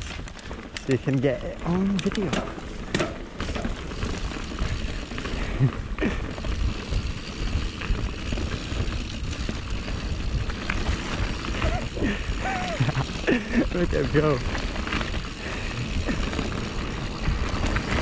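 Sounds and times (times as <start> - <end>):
bike tyre and trail rumble: 0.0 - 18.0.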